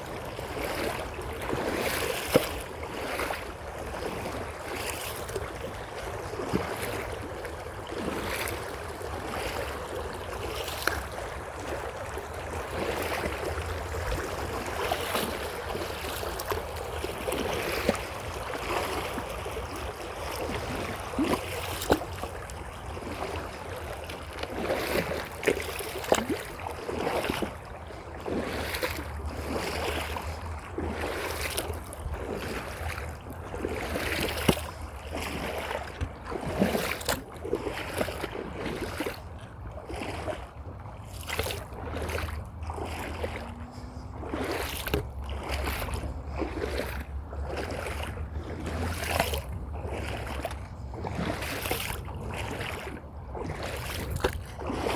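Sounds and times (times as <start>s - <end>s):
creek water splashing: 0.0s - 54.9s
wind rumbling on microphone: 0.0s - 54.9s.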